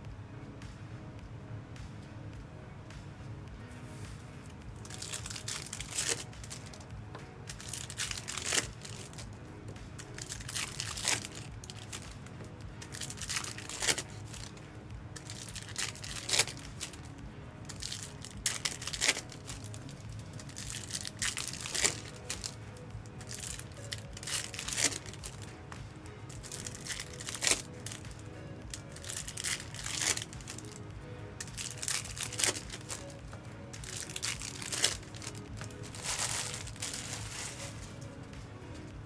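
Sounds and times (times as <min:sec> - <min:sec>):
background music: 0:00.0 - 0:39.0
card pack wrappers crinkling and tearing: 0:04.8 - 0:06.9, 0:07.5 - 0:09.4, 0:10.0 - 0:38.9.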